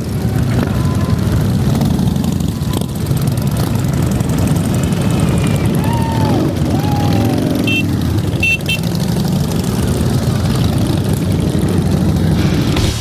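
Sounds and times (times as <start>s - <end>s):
motorcycle engine revving: 0.0s - 13.0s
motorcycle engines rumbling: 0.0s - 13.0s.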